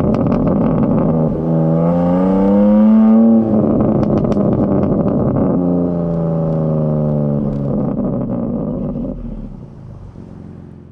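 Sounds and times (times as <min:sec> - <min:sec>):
exhaust crackles and pops: 0:00.0 - 0:10.0
car engine revving: 0:00.0 - 0:10.9.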